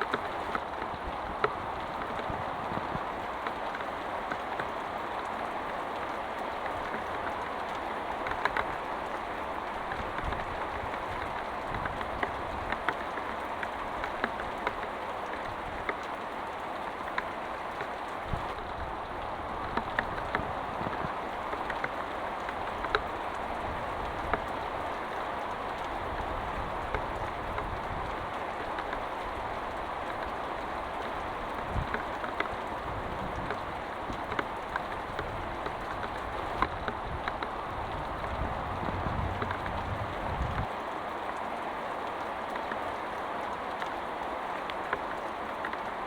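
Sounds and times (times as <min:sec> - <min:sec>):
heavy rain falling: 0:00.0 - 0:46.0
raindrop ticks: 0:00.0 - 0:46.0.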